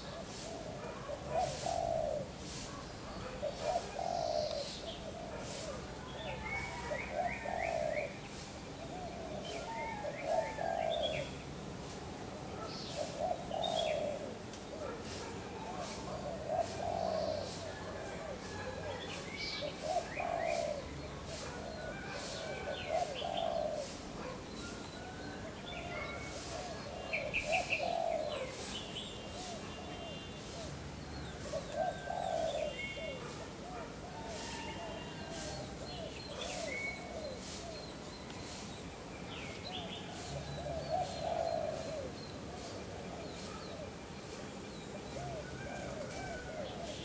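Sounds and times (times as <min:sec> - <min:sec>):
small birds chirping: 0:00.0 - 0:12.0, 0:12.6 - 0:17.8, 0:18.6 - 0:47.0
doves cooing: 0:00.0 - 0:38.7, 0:39.7 - 0:44.0, 0:44.8 - 0:47.0.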